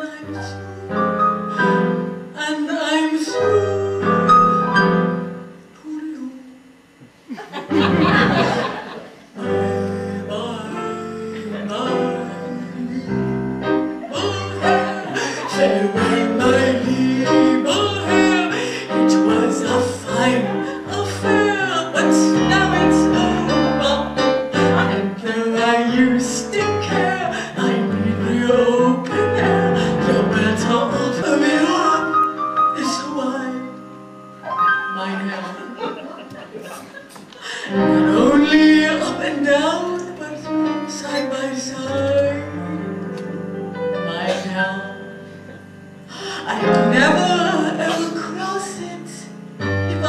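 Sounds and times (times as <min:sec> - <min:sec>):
piano accompaniment: 0:00.0 - 0:05.8, 0:07.7 - 0:50.0
person singing with vibrato: 0:00.0 - 0:06.8, 0:07.8 - 0:50.0.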